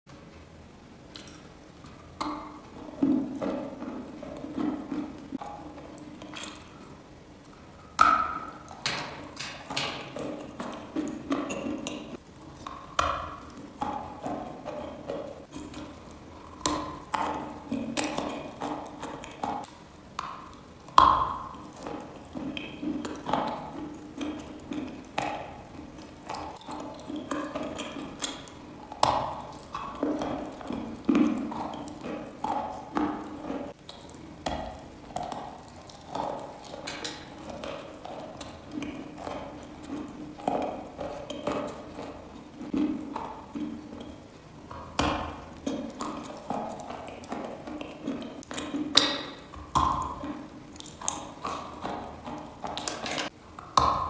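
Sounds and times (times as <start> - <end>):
chalk crunching in mouth: 2.2 - 54.0.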